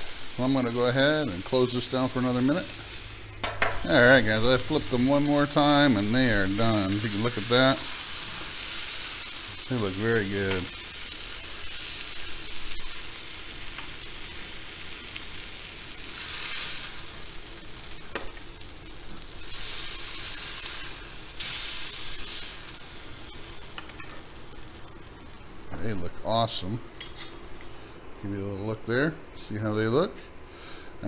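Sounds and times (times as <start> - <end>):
steaks sizzling on hot stone: 0.0 - 26.7.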